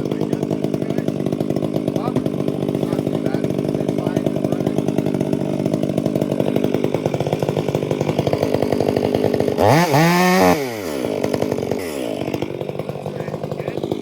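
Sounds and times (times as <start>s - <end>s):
chainsaw idling and revving: 0.0s - 14.0s.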